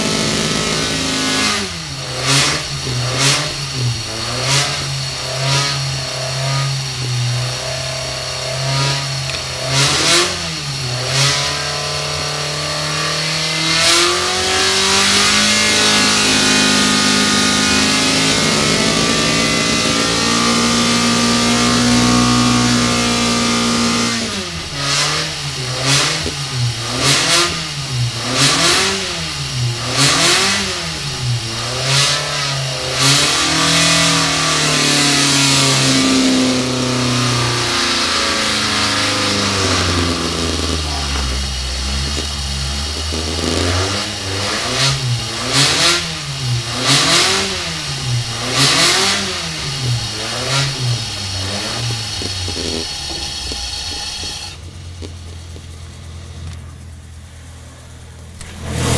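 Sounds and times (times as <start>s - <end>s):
race engine revving: 0.0s - 58.9s.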